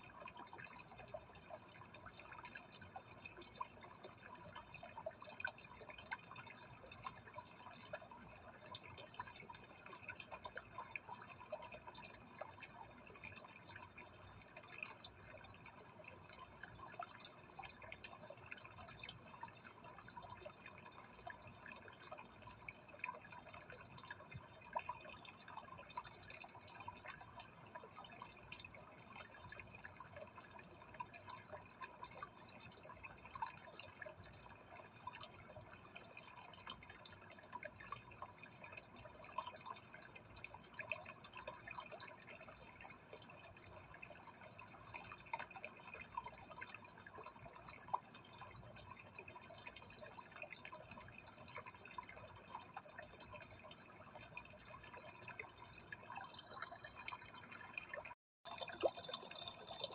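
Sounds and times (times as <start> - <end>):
drips and bubble pops: 0.0 - 59.9
water trickling: 0.0 - 59.9.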